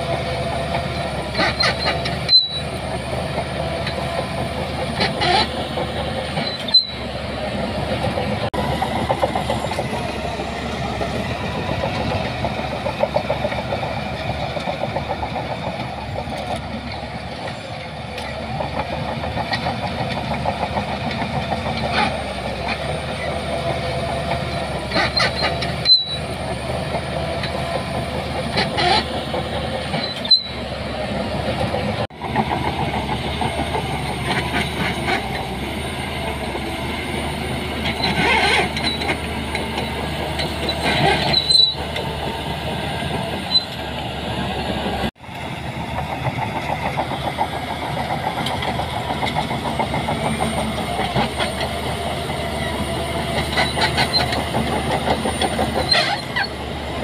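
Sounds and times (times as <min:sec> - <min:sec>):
bulldozer diesel engine: 0:00.0 - 0:57.0
steel tracks clanking and squealing: 0:00.0 - 0:57.0.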